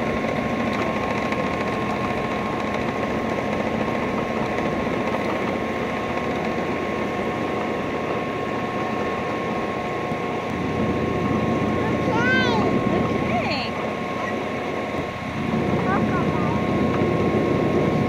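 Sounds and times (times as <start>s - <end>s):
miniature train rumbling on track: 0.0s - 18.0s.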